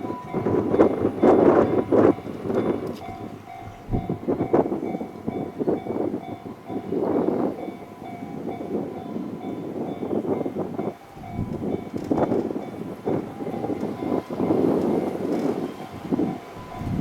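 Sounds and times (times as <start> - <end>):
crossing warning bell: 0.0 - 17.0
train wheels clattering over rails: 0.0 - 17.0.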